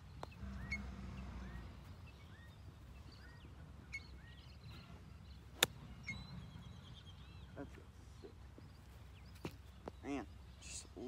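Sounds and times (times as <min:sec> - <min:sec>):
bird chirping: 0:00.0 - 0:11.0
other birds chirping: 0:00.0 - 0:11.0.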